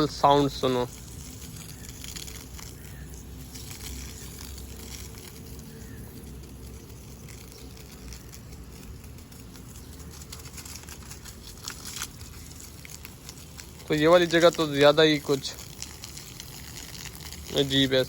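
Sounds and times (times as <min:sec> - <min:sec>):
hose water splashing on plants: 0:00.0 - 0:18.0.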